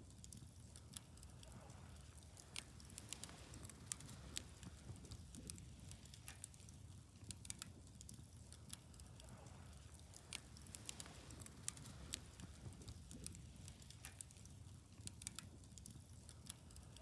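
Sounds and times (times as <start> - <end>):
low fire rumble: 0.1 - 17.0
wood fire crackling: 0.1 - 17.0.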